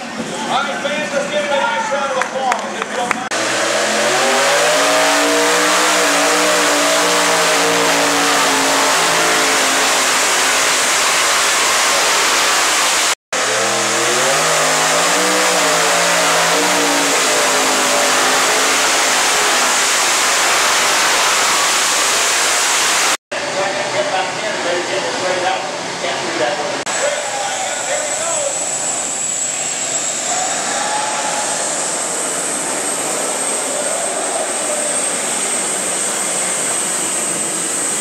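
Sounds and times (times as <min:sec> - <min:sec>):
tractor engines roaring under load: 0:00.0 - 0:38.0.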